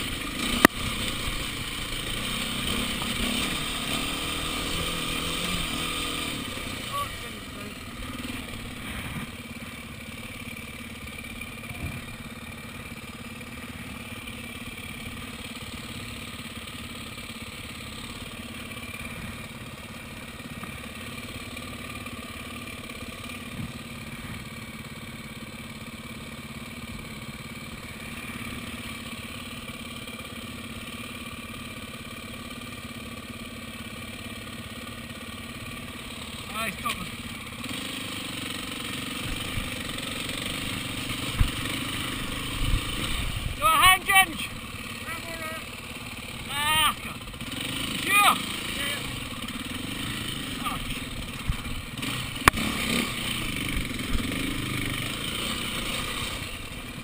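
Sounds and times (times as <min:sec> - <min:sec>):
dirt bike engine idling: 0:00.0 - 0:57.0.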